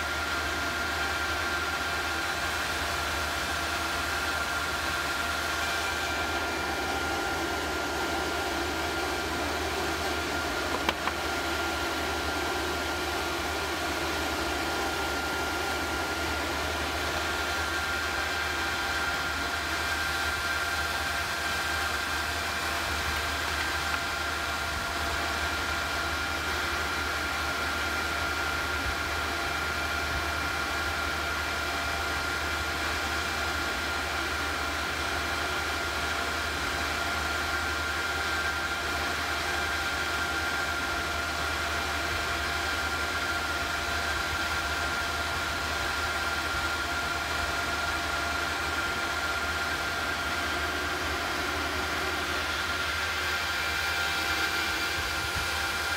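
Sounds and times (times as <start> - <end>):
induction heater hiss and whine: 0.0 - 55.9.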